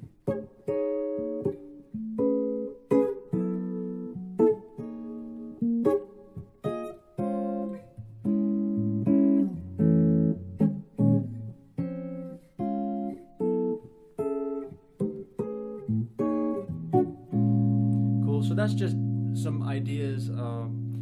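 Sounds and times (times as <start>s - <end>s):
guitar playing jazz chords: 0.0s - 21.0s.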